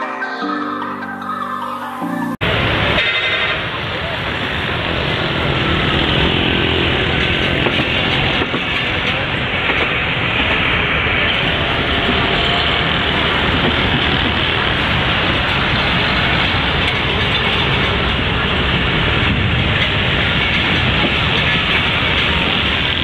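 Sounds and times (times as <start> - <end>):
train wheels on rail: 2.4 - 23.0
wind noise: 2.4 - 23.0.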